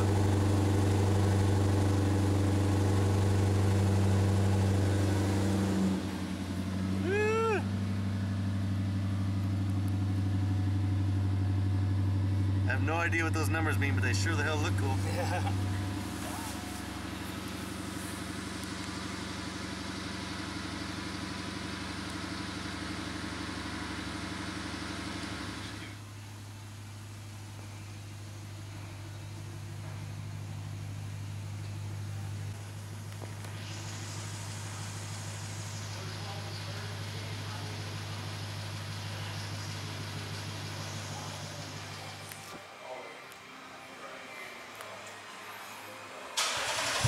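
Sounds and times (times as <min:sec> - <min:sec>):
car engine idling: 0:00.0 - 0:42.6, 0:46.3 - 0:47.0.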